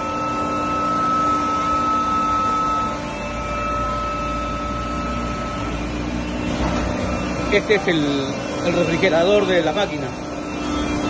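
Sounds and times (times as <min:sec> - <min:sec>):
hydraulic pump whine: 0:00.0 - 0:11.0
machine hum: 0:00.0 - 0:11.0.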